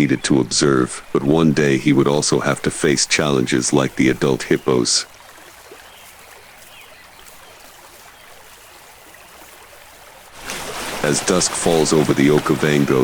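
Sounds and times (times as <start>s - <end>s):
gentle rush of flowing water: 0.0s - 13.0s.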